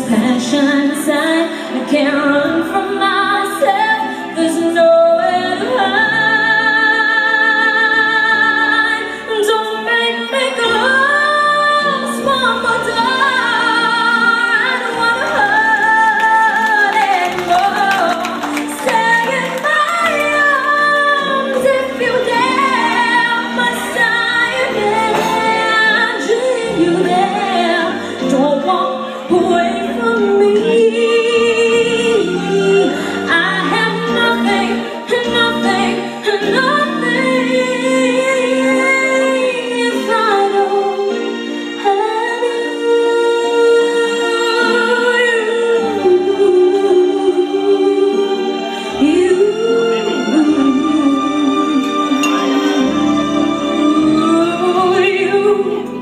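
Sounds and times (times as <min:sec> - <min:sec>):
woman singing with vibrato: 0:00.0 - 0:56.0
instrumental accompaniment: 0:00.1 - 0:56.0.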